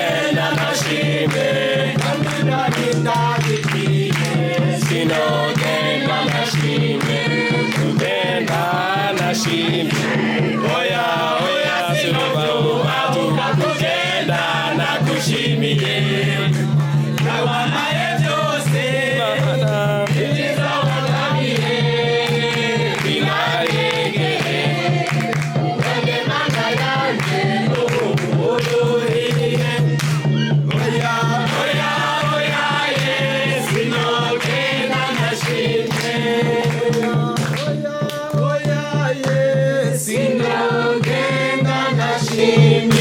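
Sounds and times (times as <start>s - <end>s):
group of voices chanting: 0.0s - 37.8s, 38.4s - 43.0s.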